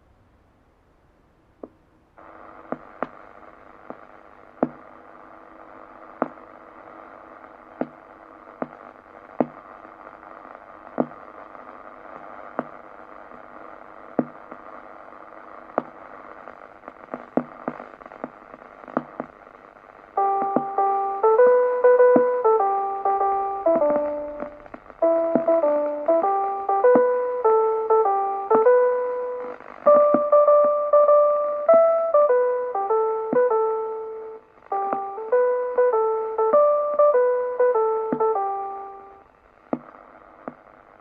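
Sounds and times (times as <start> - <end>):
sharp crackles and pops: 1.6 - 41.0
radio static hiss: 2.2 - 41.0.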